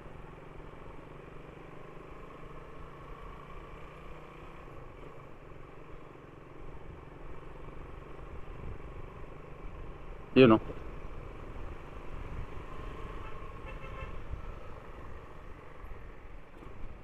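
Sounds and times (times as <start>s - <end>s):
hum of surrounding vehicles: 0.0s - 17.0s.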